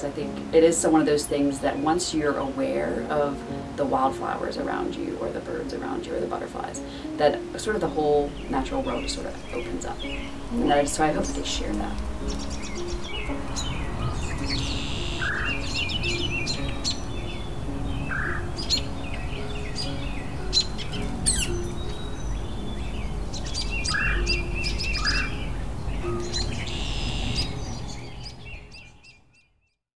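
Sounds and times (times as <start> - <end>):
soft background music: 0.0 - 29.6
songbirds chirping and trilling: 0.0 - 29.8.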